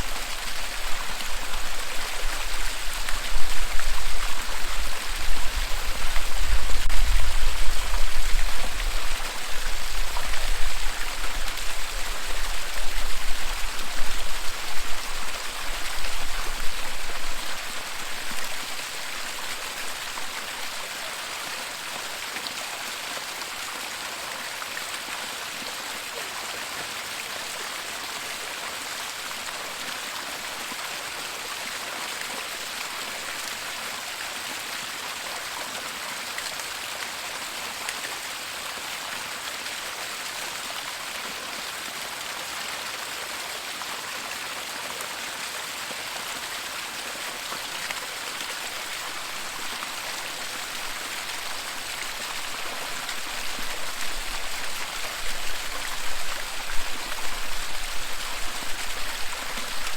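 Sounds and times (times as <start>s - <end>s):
waterfall rushing water: 0.0s - 59.9s.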